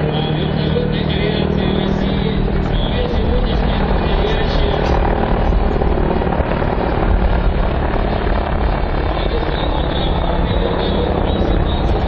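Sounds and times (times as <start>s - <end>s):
helicopter in flight: 0.0s - 12.0s.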